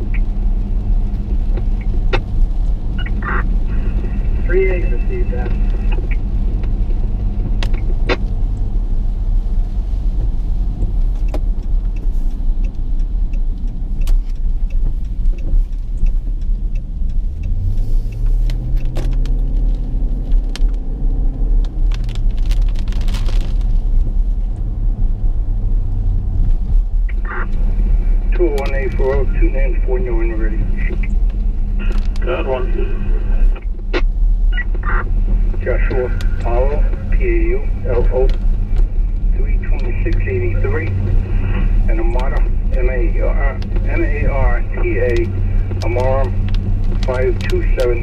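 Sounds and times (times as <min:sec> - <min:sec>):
engine and road rumble: 0:00.0 - 0:48.0.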